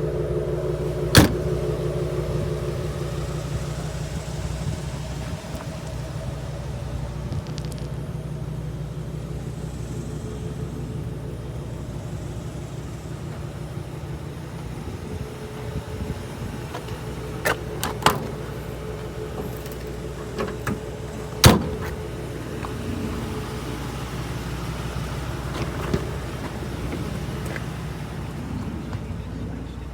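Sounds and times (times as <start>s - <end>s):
truck engine idling: 0.0s - 29.9s.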